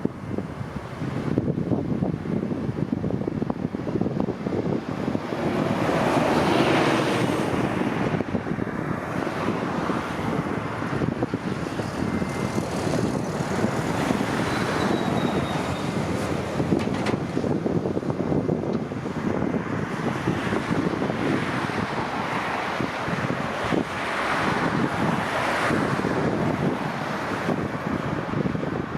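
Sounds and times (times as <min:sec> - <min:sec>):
jet engines rumbling: 0:00.0 - 0:28.9
wind buffeting microphone: 0:00.0 - 0:28.9.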